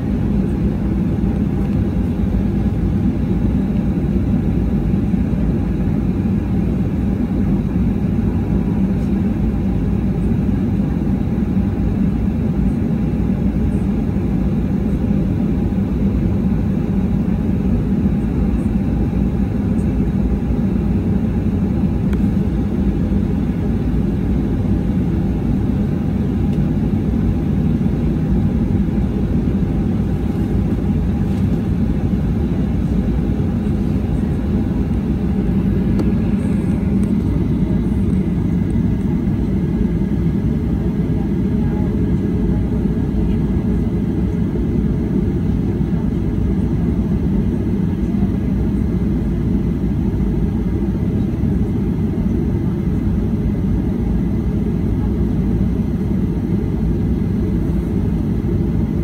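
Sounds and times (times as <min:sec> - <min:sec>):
aircraft cabin low rumble: 0:00.0 - 0:59.0.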